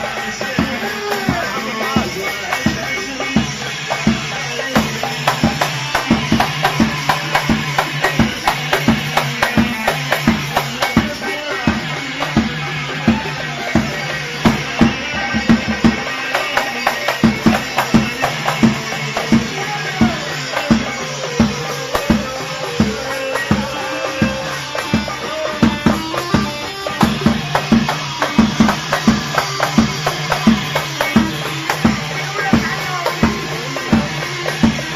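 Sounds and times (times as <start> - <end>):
bass line: 0.0 - 34.9
fast dense drum beat: 0.0 - 34.9.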